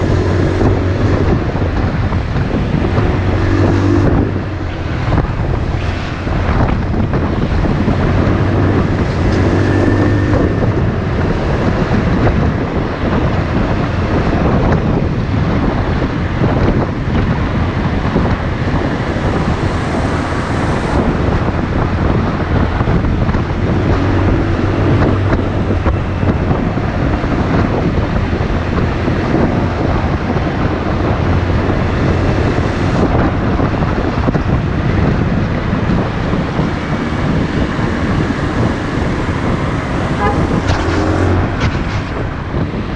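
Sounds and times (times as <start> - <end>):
motorcycle engine running: 0.0 - 42.9
wind rush on microphone: 0.0 - 42.9.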